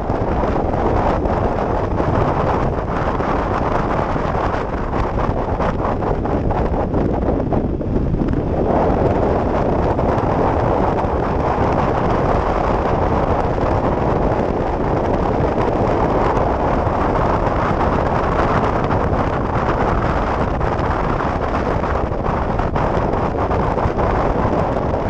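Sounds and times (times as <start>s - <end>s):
road noise: 0.0s - 25.0s
wind buffeting microphone: 0.0s - 25.0s.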